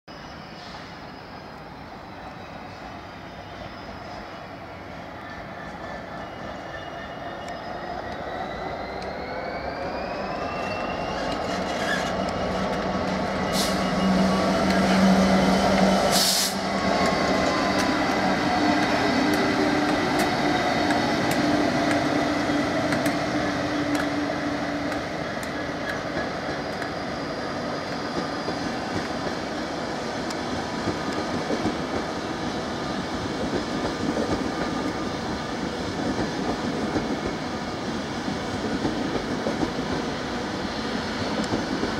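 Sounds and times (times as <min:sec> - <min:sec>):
diesel locomotive engines: 0:00.1 - 0:41.9
wheel and rail rumble: 0:08.1 - 0:41.9.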